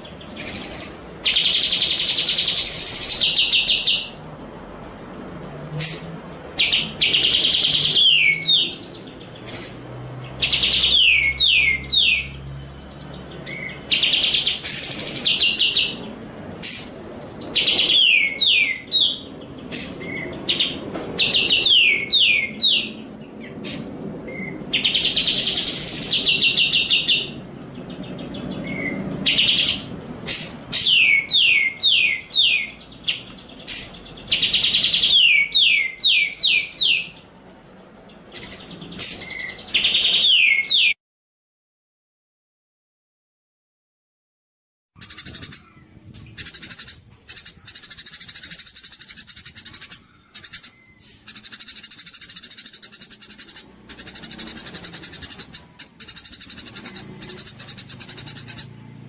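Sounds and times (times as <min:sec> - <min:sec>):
songbird whistling song: 0:00.0 - 0:04.2, 0:05.6 - 0:37.3, 0:38.2 - 0:41.0, 0:45.0 - 0:58.8.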